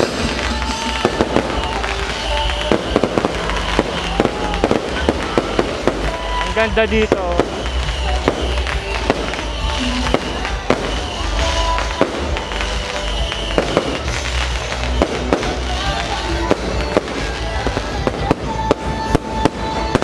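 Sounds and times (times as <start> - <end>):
fireworks bangs and crackles: 0.0 - 20.0
music with low bass: 0.0 - 20.0.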